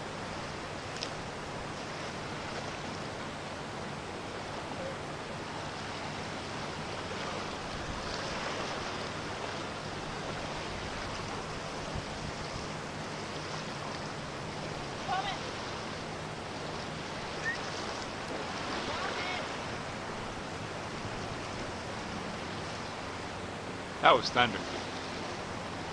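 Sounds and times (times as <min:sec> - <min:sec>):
rushing wind: 0:00.0 - 0:25.9.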